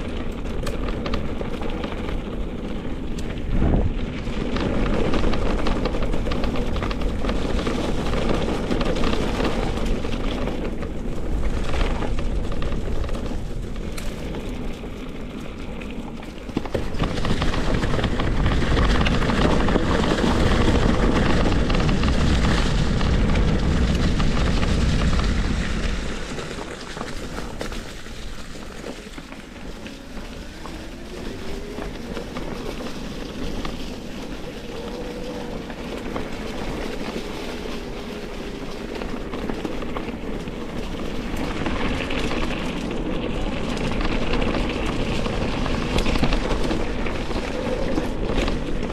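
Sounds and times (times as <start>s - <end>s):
mountain bike riding rough trail: 0.0s - 48.9s
wind buffeting microphone: 0.0s - 48.9s.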